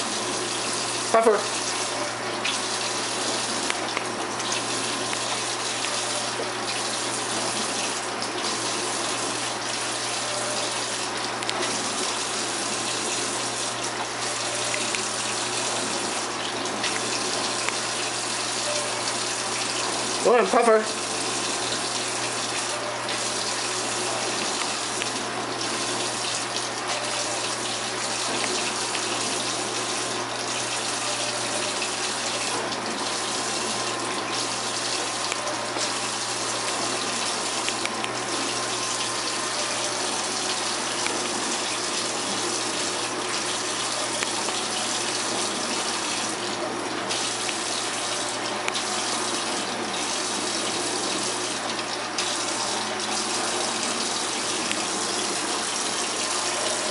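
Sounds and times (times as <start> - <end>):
tap water running into sink: 0.0 - 56.9.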